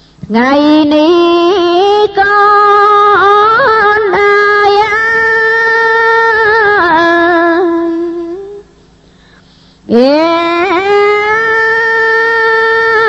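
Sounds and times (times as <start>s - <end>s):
woman chanting: 0.2s - 8.7s, 9.9s - 13.0s.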